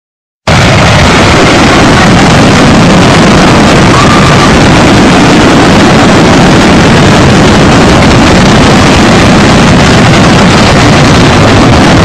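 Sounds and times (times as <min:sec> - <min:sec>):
fireworks roar and crackle: 0:00.4 - 0:12.0.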